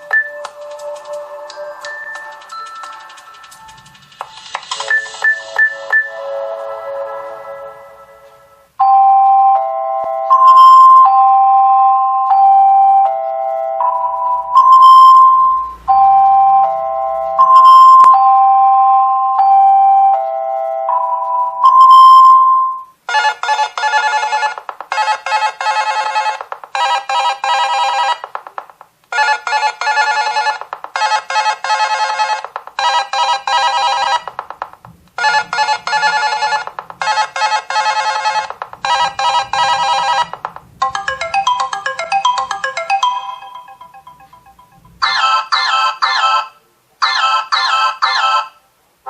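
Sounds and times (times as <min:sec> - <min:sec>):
rapid trilling ringtone: 0:00.0 - 0:07.7, 0:08.8 - 0:28.5, 0:29.1 - 0:48.6
melodic ringtone: 0:00.0 - 0:48.6.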